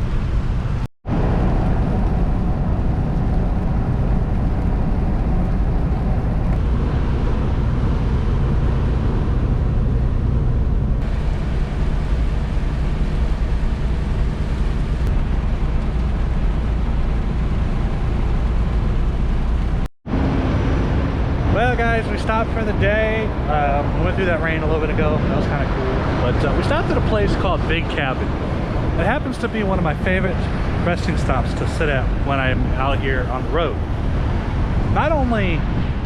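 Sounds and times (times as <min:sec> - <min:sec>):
road noise hiss: 0:00.0 - 0:36.0
truck engine rumble: 0:00.0 - 0:36.0.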